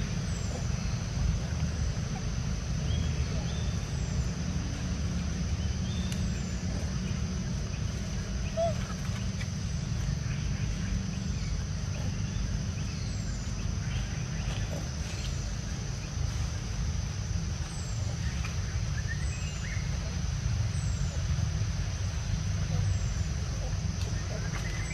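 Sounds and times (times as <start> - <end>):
high insect drone: 0.0 - 24.9.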